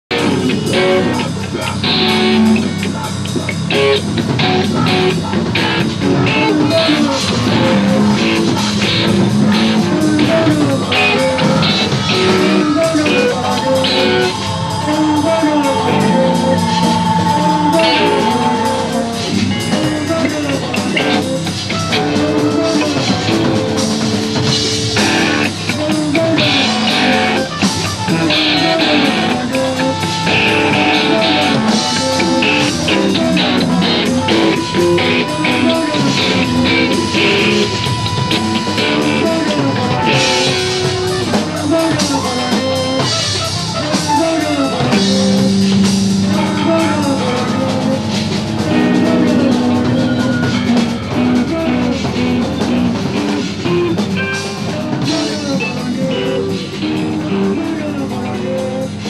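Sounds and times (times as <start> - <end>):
electric guitar: 0.0 - 59.0
drum kit: 0.1 - 59.0.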